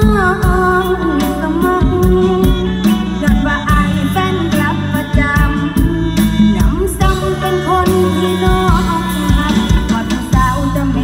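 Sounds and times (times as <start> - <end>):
bass: 0.0 - 11.0
live band music over pa: 0.0 - 11.0
steady drum beat: 0.0 - 11.0
woman singing: 0.0 - 11.0.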